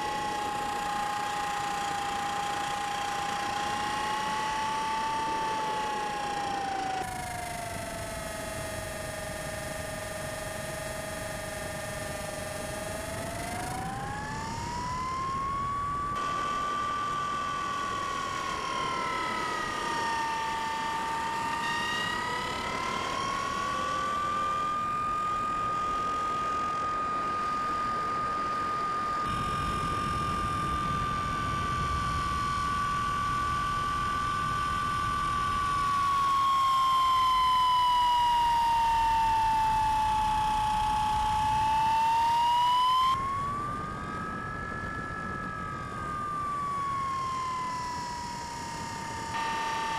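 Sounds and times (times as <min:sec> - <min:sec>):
model plane motor whining: 0:00.0 - 0:49.9.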